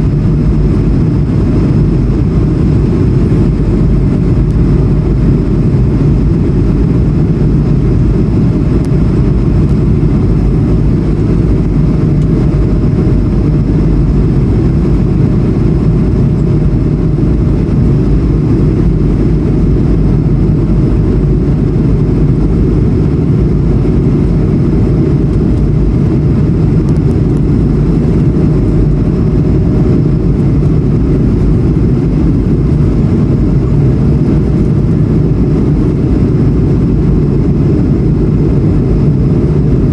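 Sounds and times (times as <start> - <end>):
faint engine whine: 0.0 - 39.9
jet engine cabin rumble: 0.0 - 39.9.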